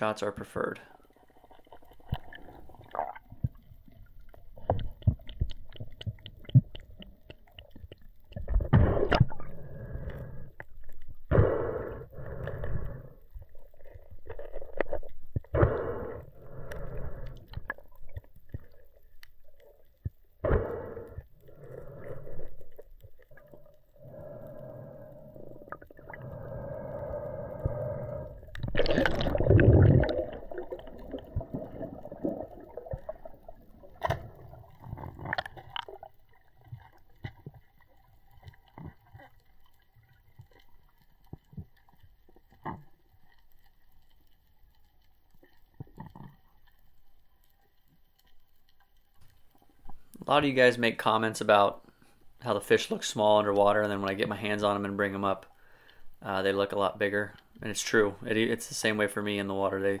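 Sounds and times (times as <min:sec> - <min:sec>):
underwater gurgling rumble: 0:01.1 - 0:51.1.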